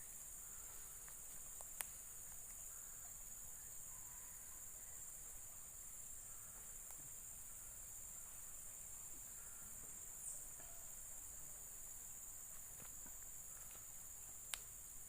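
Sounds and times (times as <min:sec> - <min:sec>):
insects trilling: 0:00.0 - 0:15.0
short insect chirp: 0:00.0 - 0:15.0.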